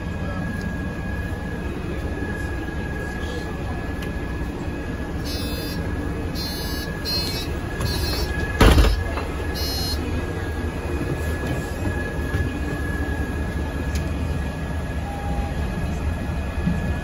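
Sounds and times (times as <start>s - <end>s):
bus engine low rumble: 0.0s - 17.0s.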